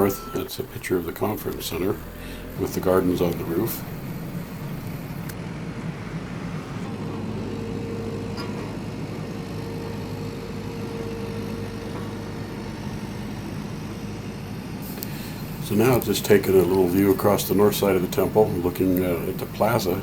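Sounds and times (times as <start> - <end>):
faint held tone: 0.0 - 20.0
low mechanical hum: 0.0 - 20.0.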